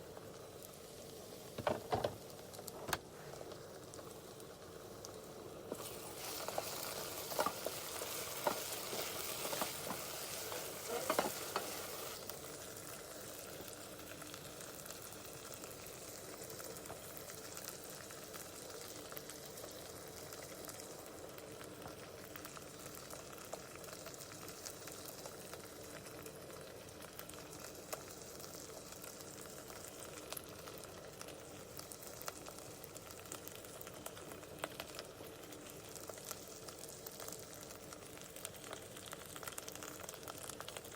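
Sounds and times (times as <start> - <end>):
paste sizzling in oil: 0.0 - 40.9.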